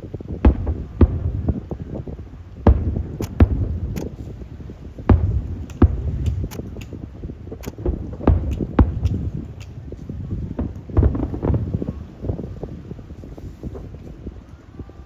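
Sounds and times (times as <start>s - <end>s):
rumble of echoing explosions: 0.0s - 13.2s
fireworks bangs: 0.0s - 13.9s.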